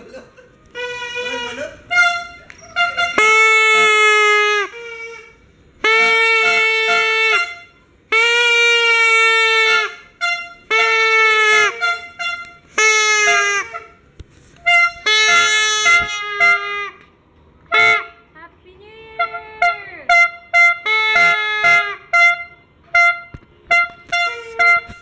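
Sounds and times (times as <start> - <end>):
high party horn toots: 0.6 - 18.3, 19.0 - 25.0
air horn blasts: 0.7 - 18.3, 19.0 - 25.0.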